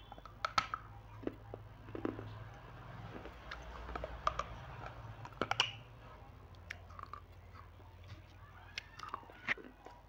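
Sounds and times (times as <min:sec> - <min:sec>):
chewing crunchy snack: 0:00.6 - 0:05.8, 0:06.5 - 0:10.0.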